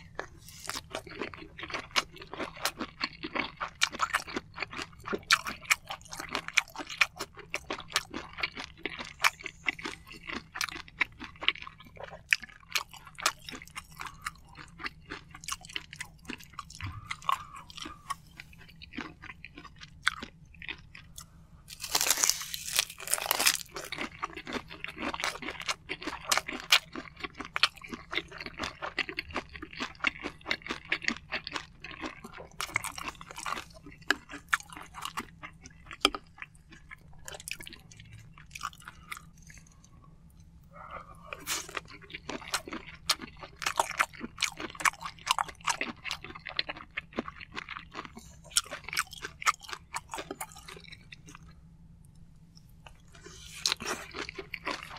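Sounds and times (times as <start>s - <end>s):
chewing with wet mouth sounds: 0.0s - 54.9s.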